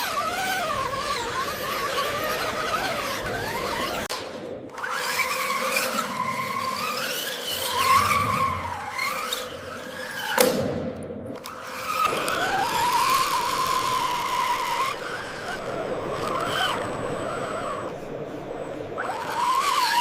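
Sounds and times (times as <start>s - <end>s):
electric motors and gears whining: 0.0s - 20.0s.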